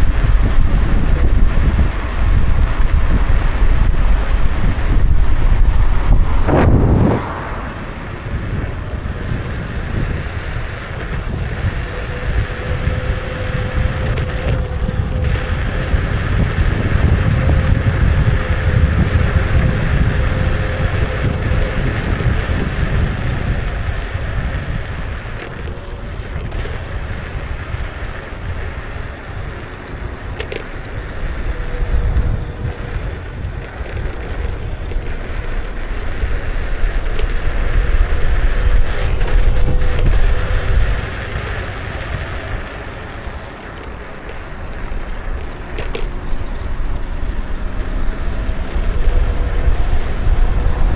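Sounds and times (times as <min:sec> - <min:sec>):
tyre and road rumble: 0:00.0 - 0:50.9
wind on microphone: 0:00.0 - 0:50.9.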